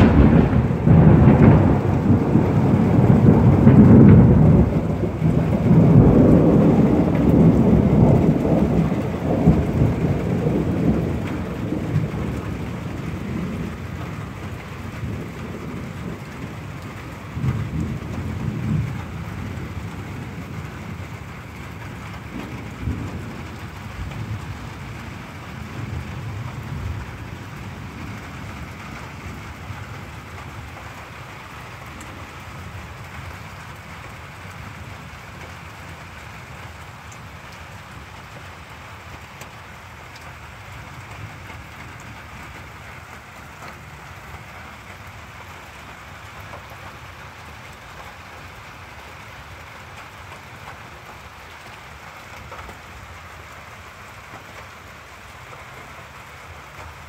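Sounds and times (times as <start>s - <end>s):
thunder rumbling: 0.0s - 54.8s
steady rain: 0.0s - 57.0s.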